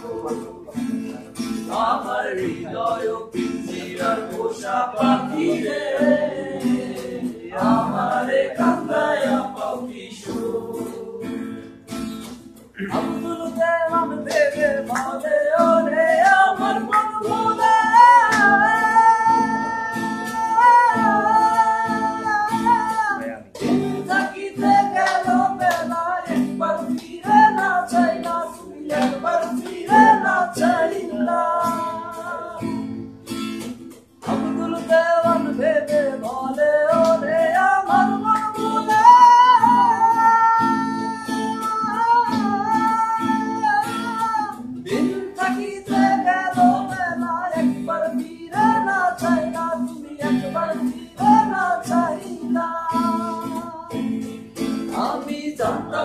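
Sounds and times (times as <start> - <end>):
man singing: 0.0 - 11.5, 12.7 - 32.8, 34.2 - 54.2, 54.8 - 56.0
acoustic guitar strumming: 0.0 - 56.0.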